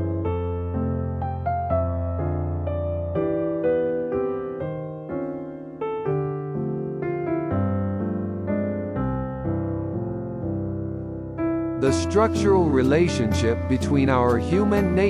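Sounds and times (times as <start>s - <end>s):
soft slow piano music: 0.0s - 15.0s.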